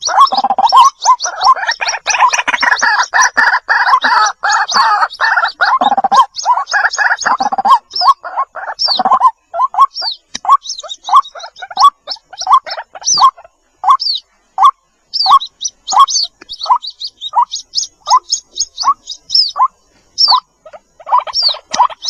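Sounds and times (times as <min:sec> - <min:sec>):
chicks peeping: 0:00.0 - 0:22.0
high curving chirps: 0:00.0 - 0:22.0.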